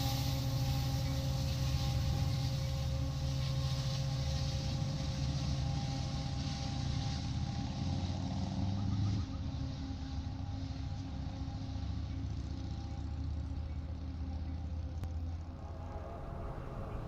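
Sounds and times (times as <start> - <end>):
diesel locomotive engine humming: 0.0 - 17.0.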